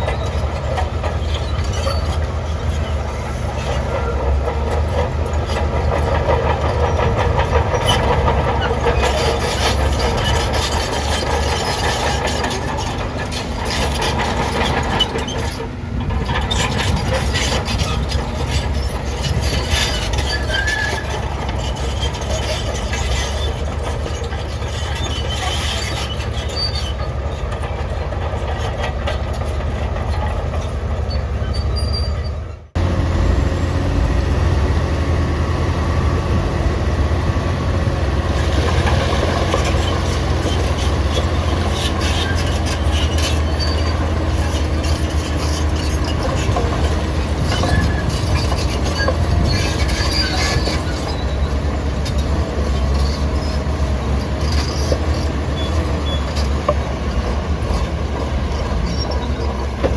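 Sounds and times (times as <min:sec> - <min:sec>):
diesel engine under load: 0:00.0 - 0:59.9
steel tracks clanking and squealing: 0:00.0 - 0:59.9.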